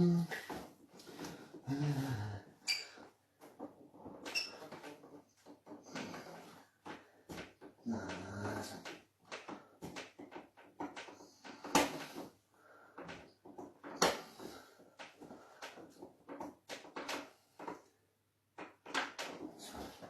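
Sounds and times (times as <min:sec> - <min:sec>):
hands knocking and rustling on back: 0:02.9 - 0:20.0.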